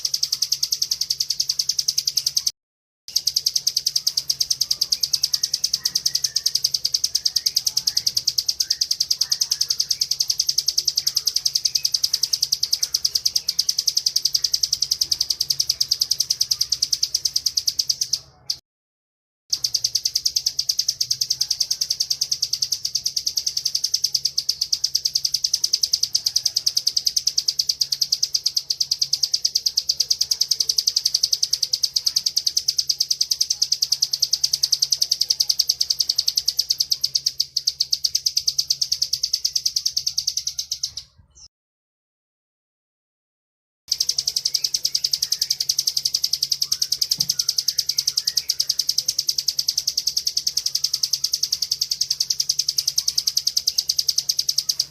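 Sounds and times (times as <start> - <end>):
bird high-pitched trill: 0.0 - 2.5, 3.1 - 18.6, 19.5 - 41.5, 43.9 - 54.9.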